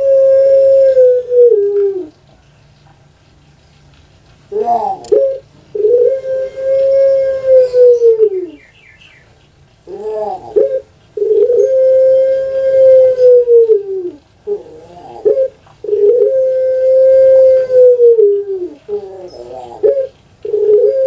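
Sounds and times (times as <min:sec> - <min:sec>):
dove cooing: 0:00.0 - 0:02.3, 0:04.5 - 0:21.0.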